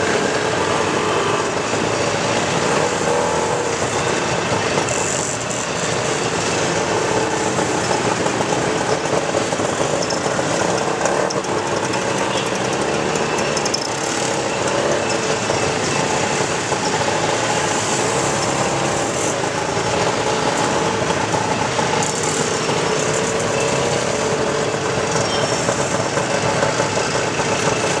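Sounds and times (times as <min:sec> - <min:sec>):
auto rickshaw engine running: 0:00.0 - 0:28.0
street traffic noise: 0:00.0 - 0:28.0.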